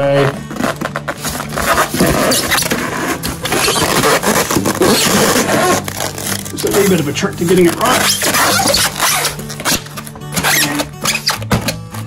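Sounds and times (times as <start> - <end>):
polystyrene pieces squeaking: 0.0 - 12.0.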